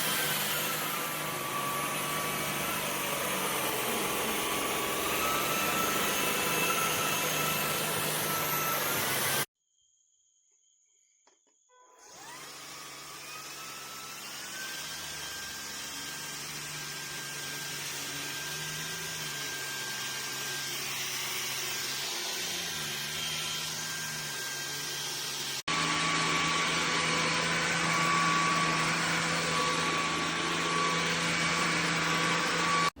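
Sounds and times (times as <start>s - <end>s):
vacuum cleaner motor whining: 0.0s - 9.5s, 12.0s - 33.0s.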